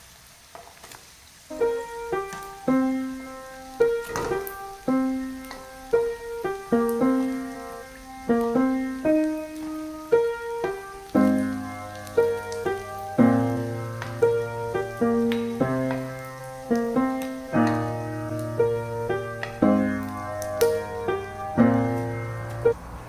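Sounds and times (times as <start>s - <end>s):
slow piano music: 1.5s - 23.0s.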